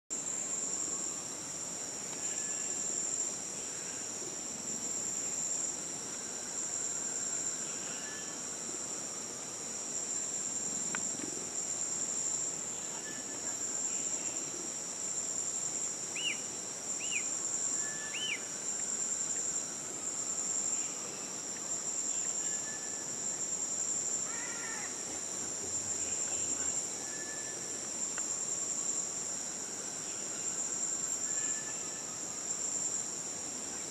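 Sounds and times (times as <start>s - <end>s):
insect chorus: 0.1s - 33.9s.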